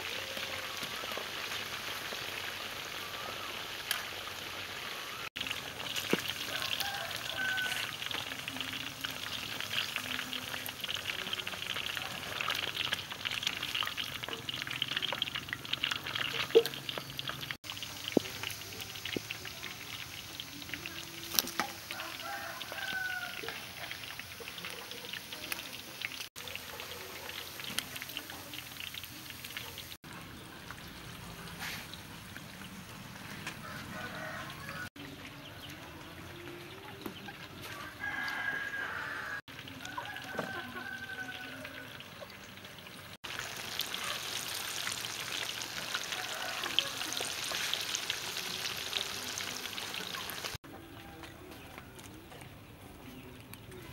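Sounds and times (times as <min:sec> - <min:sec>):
deep-frying sizzle in oil: 0:00.0 - 0:36.3, 0:36.9 - 0:50.7.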